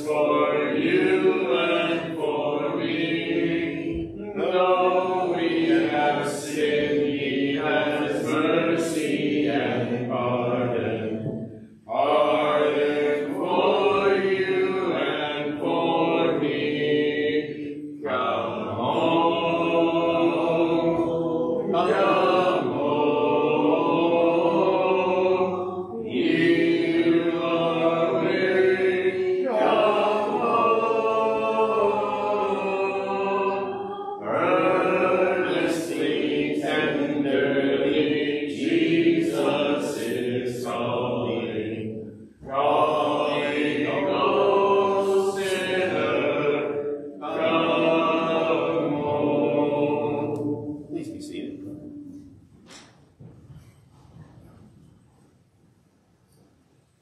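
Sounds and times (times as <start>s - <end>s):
congregation singing a hymn: 0.0s - 53.6s.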